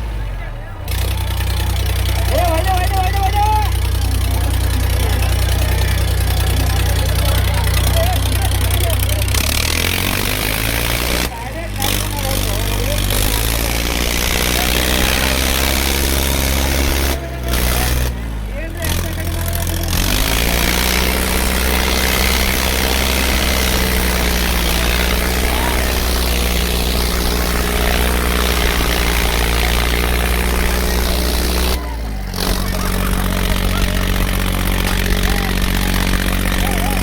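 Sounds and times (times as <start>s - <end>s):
tractor diesel engine droning: 0.0s - 37.0s.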